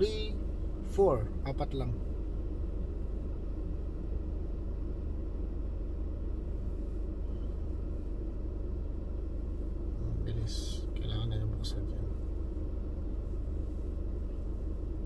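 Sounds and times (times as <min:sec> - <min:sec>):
car idling cabin rumble: 0:00.0 - 0:15.0.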